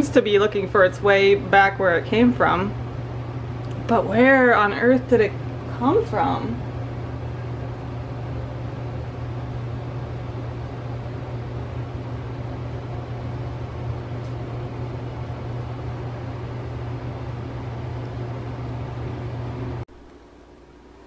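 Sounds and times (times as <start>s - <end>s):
motor humming: 0.8s - 20.2s.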